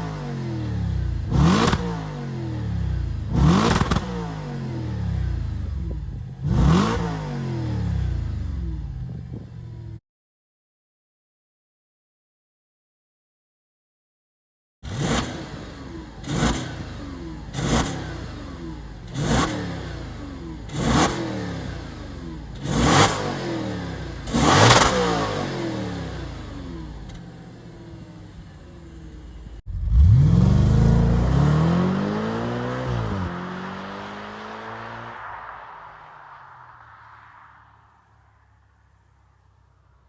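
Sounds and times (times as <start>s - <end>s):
car exhaust revving: 0.0s - 10.0s, 14.9s - 39.8s.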